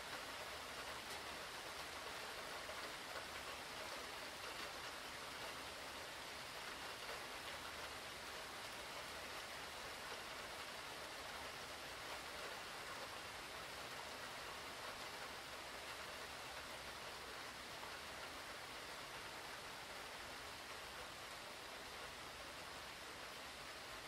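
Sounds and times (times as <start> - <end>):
rain hissing on surfaces: 0.0 - 24.0.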